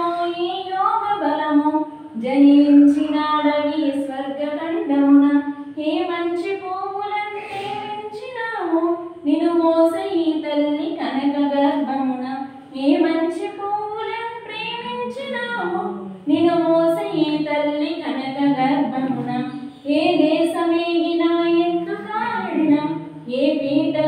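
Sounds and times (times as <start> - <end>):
woman singing unaccompanied: 0.0 - 7.4, 8.0 - 24.0.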